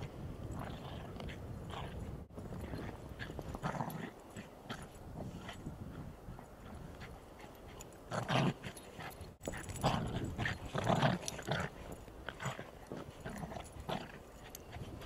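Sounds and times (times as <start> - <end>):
dogs scuffling in snow: 0.1 - 15.0
dogs growling: 0.5 - 15.0.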